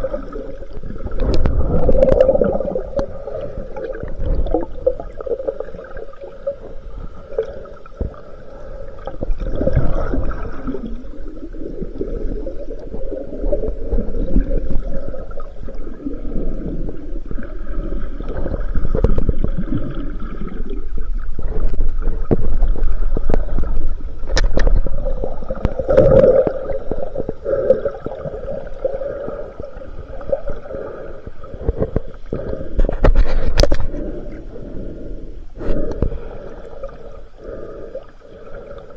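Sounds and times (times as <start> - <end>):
underwater water sloshing: 0.0 - 38.9.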